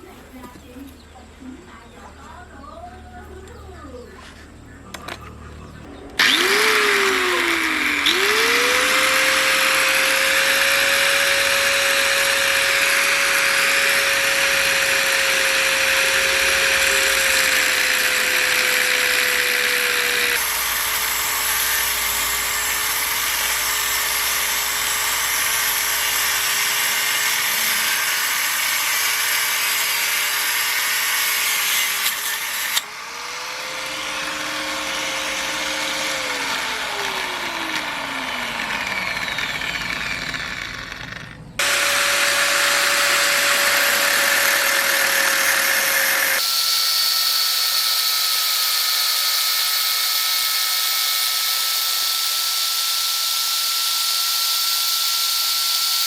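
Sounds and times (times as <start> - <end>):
power tool whining and grinding: 6.0 - 56.0.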